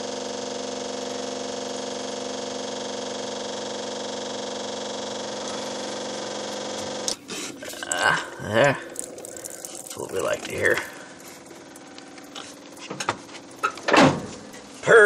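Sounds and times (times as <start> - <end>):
electric fuel pump humming: 0.0 - 14.8.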